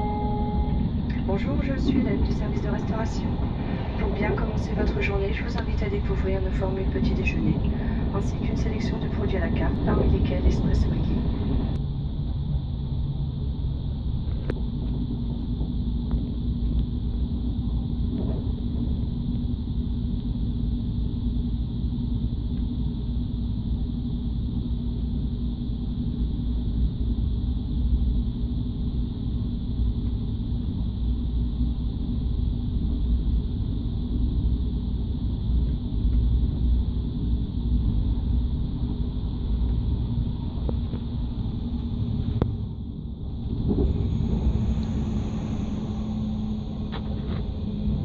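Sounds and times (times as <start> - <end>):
train rumble from inside carriage: 0.0 - 48.0.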